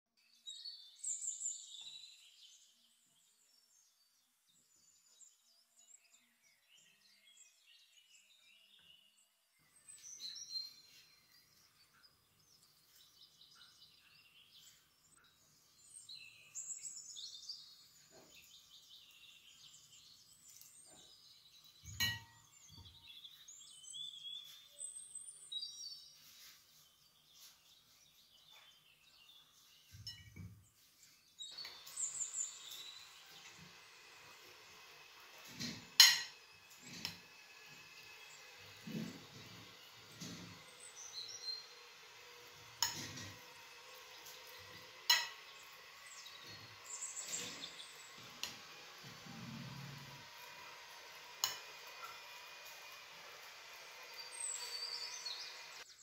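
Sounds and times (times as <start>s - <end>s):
small birds chirping: 0.2s - 56.0s.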